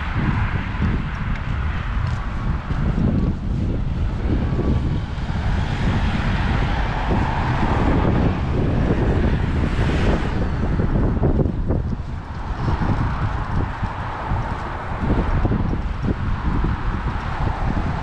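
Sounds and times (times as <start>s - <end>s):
car tyre noise passing close: 0.0s - 18.0s
road traffic passing: 0.0s - 18.0s
wind buffeting microphone: 0.0s - 18.0s.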